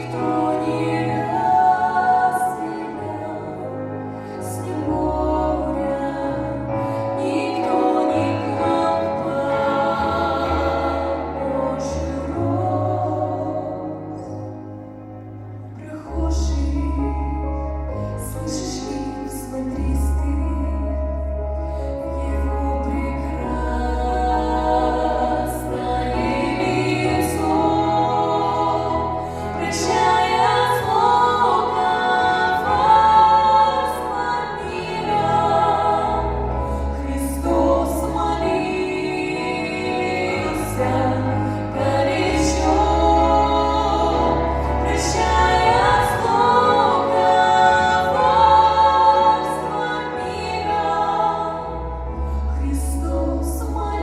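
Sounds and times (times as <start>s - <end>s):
choir singing: 0.0s - 17.1s, 22.2s - 54.0s
bass line: 0.0s - 54.0s.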